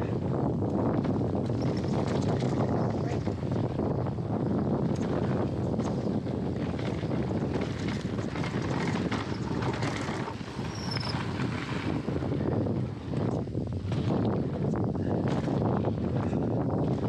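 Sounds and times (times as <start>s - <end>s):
bike rattling and clicking: 0.0s - 17.0s
wind rushing over microphone: 0.0s - 17.0s
tyre noise on dirt: 0.2s - 17.0s.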